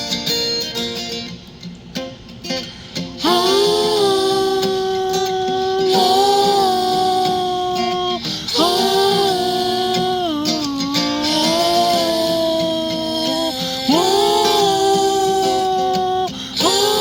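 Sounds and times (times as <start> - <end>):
women singing held notes: 3.2 - 17.0.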